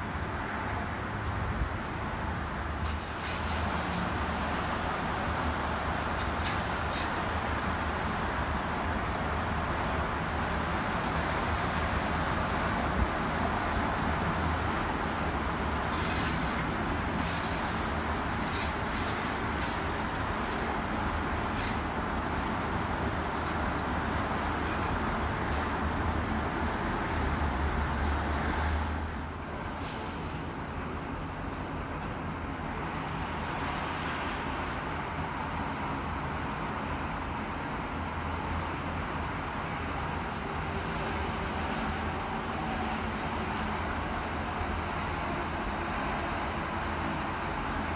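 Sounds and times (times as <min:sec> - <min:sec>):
gusting wind: 0:00.0 - 0:47.9
road traffic: 0:00.0 - 0:47.9.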